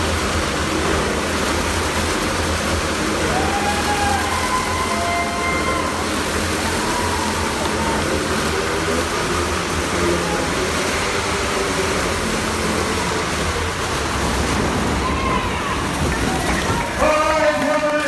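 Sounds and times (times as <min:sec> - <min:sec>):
kart engine running: 0:00.0 - 0:18.0.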